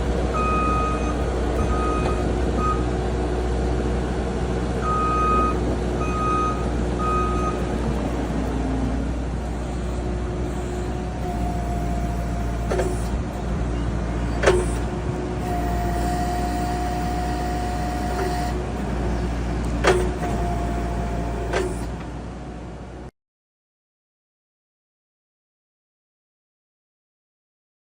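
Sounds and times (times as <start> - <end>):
skid steer engine running: 0.0 - 23.1.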